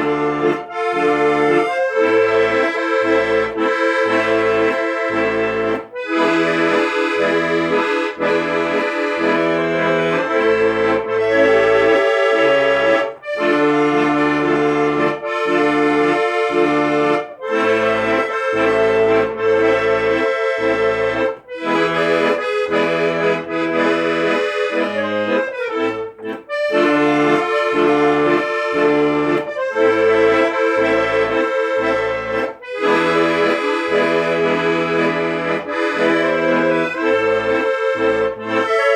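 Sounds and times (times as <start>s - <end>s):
accordion playing folk music: 0.0s - 38.9s.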